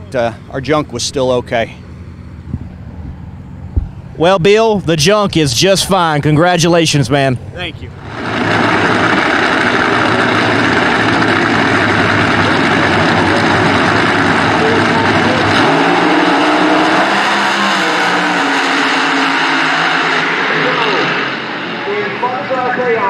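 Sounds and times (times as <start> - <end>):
drag racing cars engines: 0.0 - 23.0.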